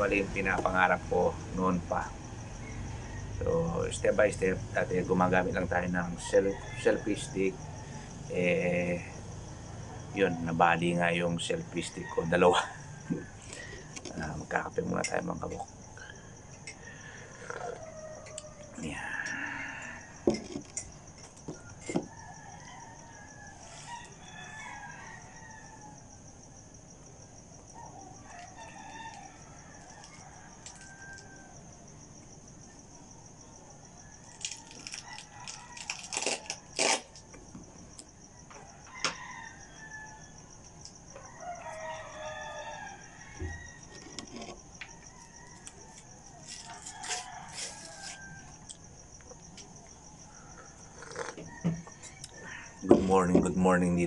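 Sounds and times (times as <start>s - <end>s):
distant roosters crowing: 0.0s - 54.0s.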